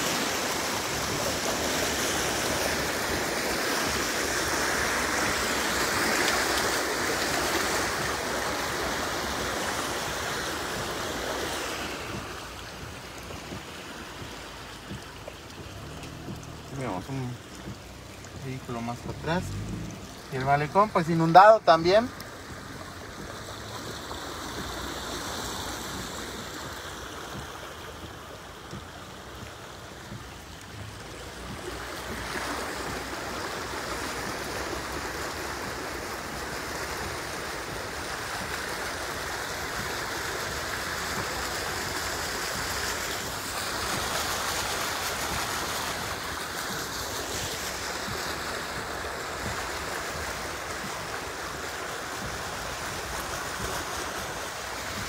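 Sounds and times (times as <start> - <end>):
heavy rain and floodwater rushing: 0.0 - 55.0.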